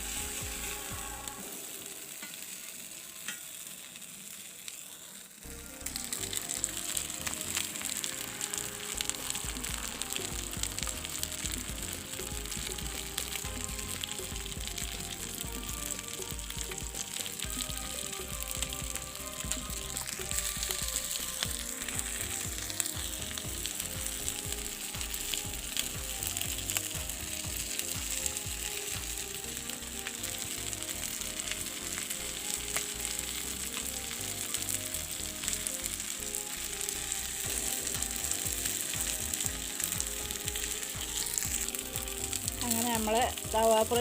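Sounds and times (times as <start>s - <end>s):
chicken sizzling in oil: 0.0s - 44.0s
small crackles of frying: 0.0s - 44.0s.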